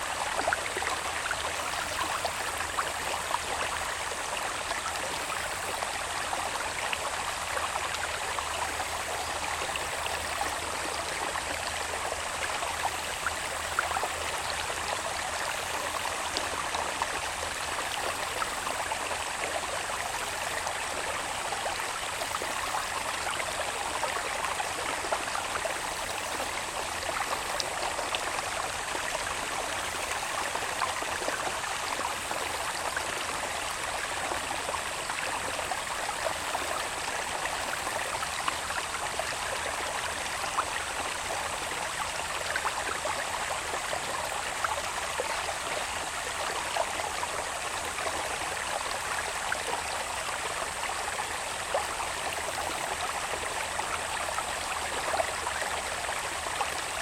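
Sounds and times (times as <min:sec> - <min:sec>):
water babbling and trickling: 0:00.0 - 0:57.0.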